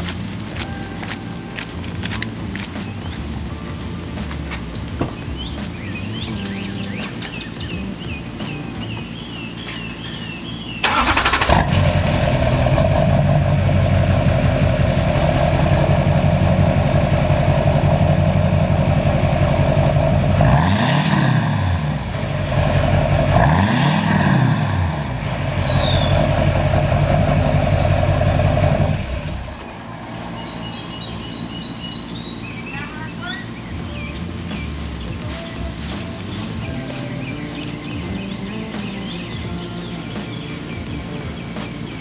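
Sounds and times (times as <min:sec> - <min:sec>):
diesel pickup engine idling: 0:00.0 - 0:42.0
engine revving: 0:00.0 - 0:42.0.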